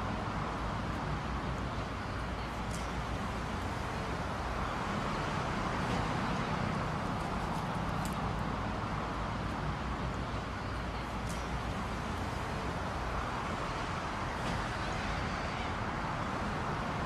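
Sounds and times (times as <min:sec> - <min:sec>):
distant city traffic hum: 0:00.0 - 0:17.0.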